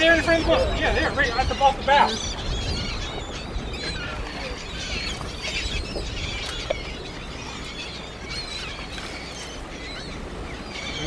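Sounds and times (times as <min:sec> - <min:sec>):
seabirds calling: 0:00.0 - 0:11.0
wind rumble on microphone: 0:00.0 - 0:11.0.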